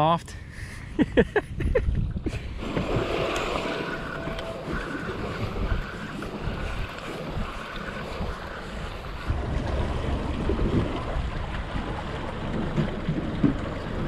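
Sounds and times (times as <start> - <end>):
wind on microphone: 0.6 - 14.0
waves lapping against boat hull: 2.0 - 14.0.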